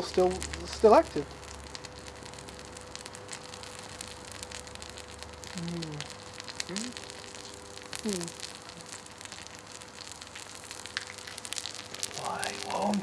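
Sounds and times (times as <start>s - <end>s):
burning coil crackling and sizzling: 0.0s - 13.0s.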